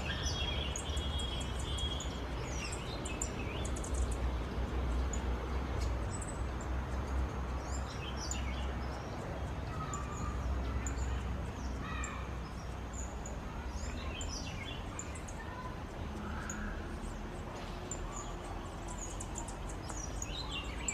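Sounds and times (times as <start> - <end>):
wild birds chirping: 0.0 - 20.9.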